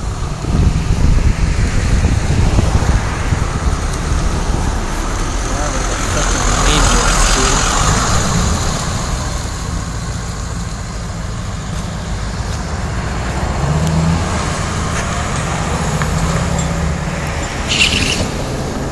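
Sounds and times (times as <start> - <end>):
truck engine driving away: 0.0 - 18.9.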